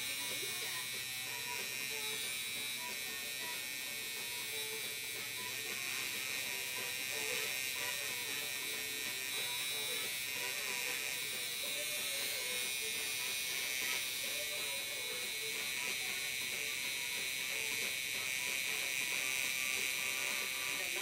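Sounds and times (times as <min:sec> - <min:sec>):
tattoo machine buzzing: 0:00.0 - 0:21.0.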